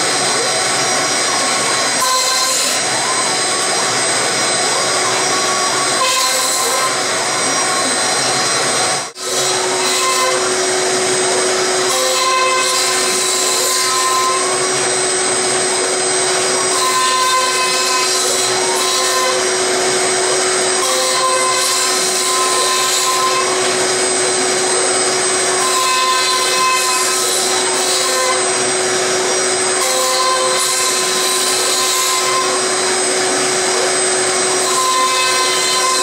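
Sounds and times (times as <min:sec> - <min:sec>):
milling machine spindle whine: 0:00.0 - 0:36.0.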